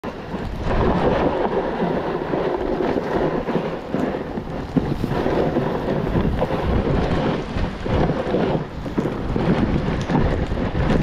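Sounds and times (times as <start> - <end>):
skis sliding over snow: 0.0 - 11.0
wind buffeting microphone: 0.0 - 11.0.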